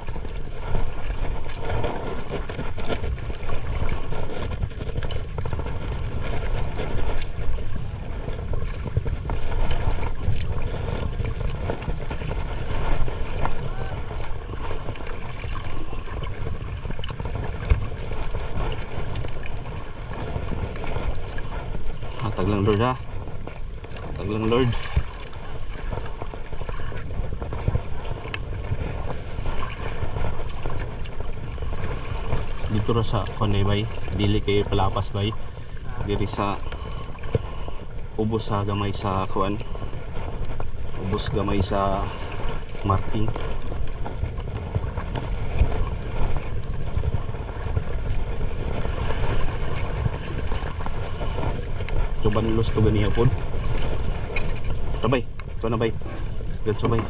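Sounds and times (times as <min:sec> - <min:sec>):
water splashing against hull: 0:00.0 - 0:57.0
wind buffeting microphone: 0:00.0 - 0:57.0.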